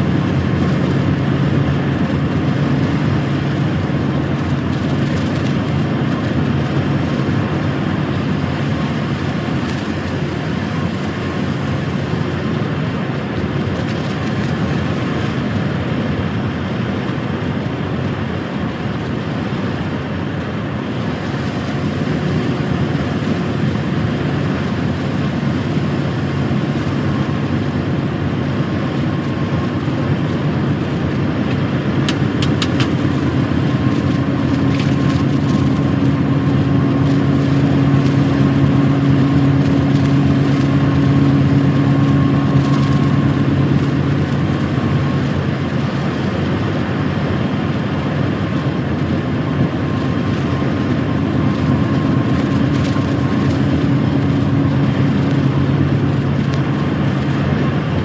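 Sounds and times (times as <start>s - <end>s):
truck diesel engine running: 0.0s - 58.0s
tyre and road noise: 0.0s - 58.0s.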